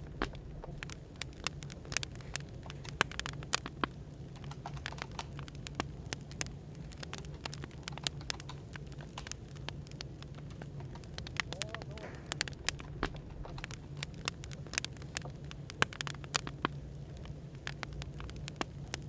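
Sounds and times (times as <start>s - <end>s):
low steady hum: 0.0s - 19.0s
wood fire crackling and popping: 0.0s - 19.0s.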